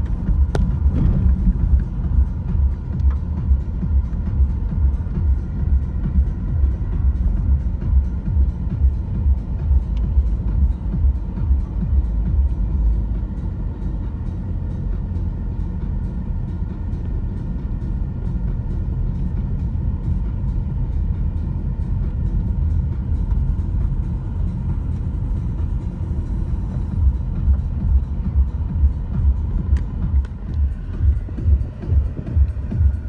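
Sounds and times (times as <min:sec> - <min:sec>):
car engine running: 0:00.0 - 0:33.0
tyres on gravel road: 0:00.0 - 0:33.0.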